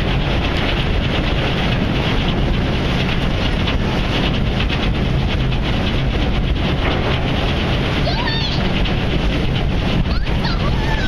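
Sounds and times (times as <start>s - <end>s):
low ferry drone: 0.0s - 11.0s
wind buffeting microphone: 0.0s - 11.0s.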